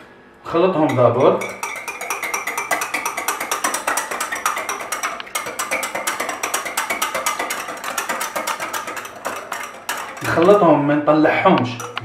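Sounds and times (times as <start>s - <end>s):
whisk beating eggs in glass bowl: 0.9s - 10.8s, 11.4s - 12.0s.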